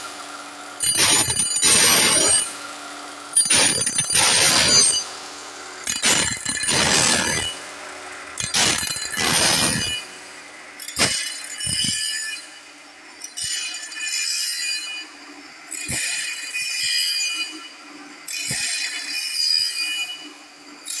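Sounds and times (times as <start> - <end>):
grinding wheel on metal: 0.7 - 2.6, 3.3 - 5.2, 5.8 - 10.2, 10.8 - 20.2.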